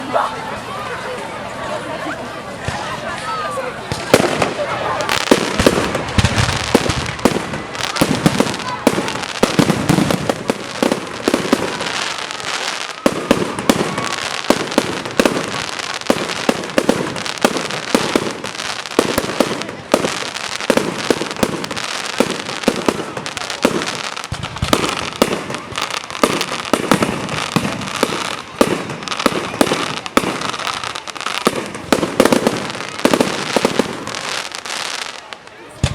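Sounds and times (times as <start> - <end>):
fireworks crackling: 0.0 - 35.9
fireworks bangs and pops: 3.8 - 35.9.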